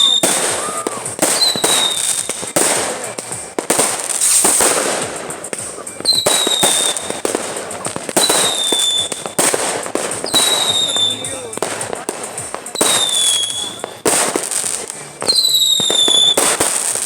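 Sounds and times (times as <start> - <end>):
fireworks banging and crackling: 0.0 - 17.0
high firework whistle: 0.0 - 17.0.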